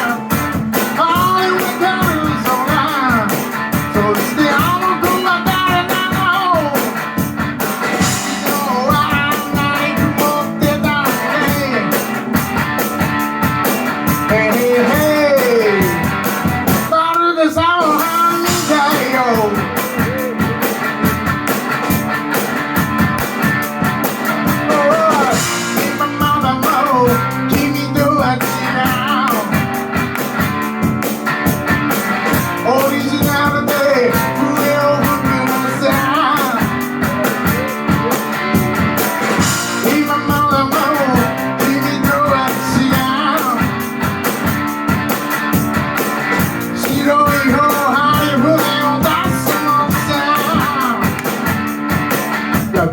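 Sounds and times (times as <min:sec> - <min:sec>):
electric guitar bending notes: 0:00.0 - 0:17.2, 0:17.8 - 0:52.9
bass: 0:00.0 - 0:52.9
drum beat: 0:00.0 - 0:52.9.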